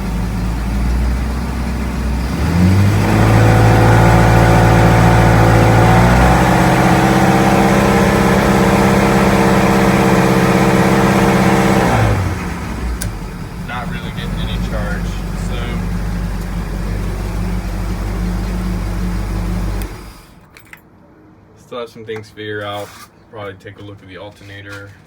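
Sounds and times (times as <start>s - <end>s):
boat engine idling and revving: 0.0s - 20.4s.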